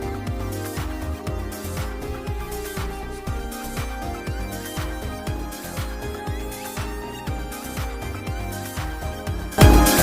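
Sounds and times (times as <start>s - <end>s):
background music with kick drum beat: 0.0s - 10.0s.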